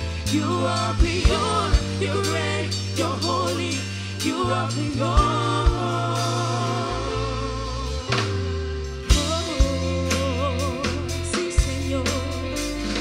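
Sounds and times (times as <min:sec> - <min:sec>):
steady bass line: 0:00.0 - 0:13.0.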